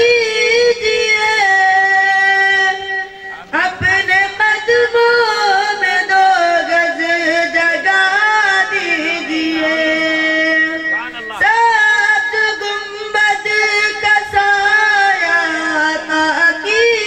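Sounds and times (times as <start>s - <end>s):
boy singing into a microphone: 0.0s - 17.0s.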